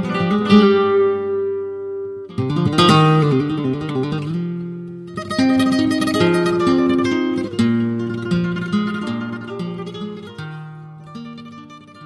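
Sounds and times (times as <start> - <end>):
flamenco acoustic guitar: 0.0 - 12.0.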